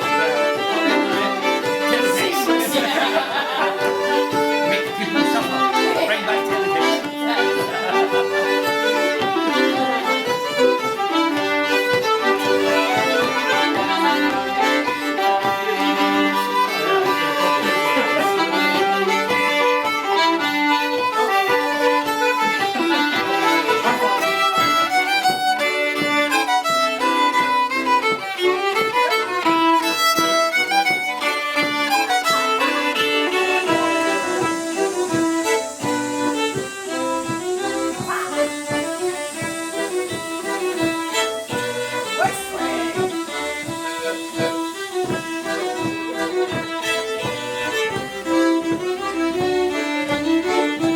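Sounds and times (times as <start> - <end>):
accompanying instruments: 0.0 - 50.9
fiddle playing quick folk tune: 0.0 - 50.9.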